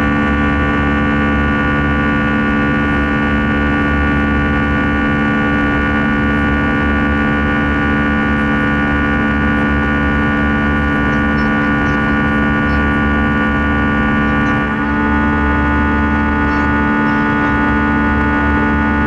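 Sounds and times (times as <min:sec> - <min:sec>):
jet engine buzzing drone: 0:00.0 - 0:19.0.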